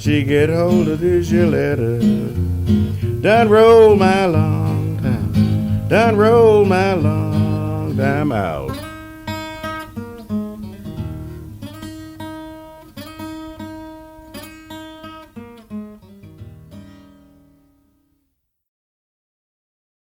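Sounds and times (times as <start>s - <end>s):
acoustic guitar blues picking: 0.0s - 17.8s.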